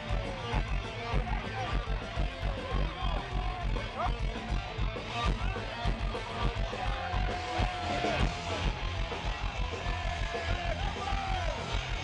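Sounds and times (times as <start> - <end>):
distorted electric guitars: 0.0 - 12.0
fast pounding drums: 0.0 - 12.0.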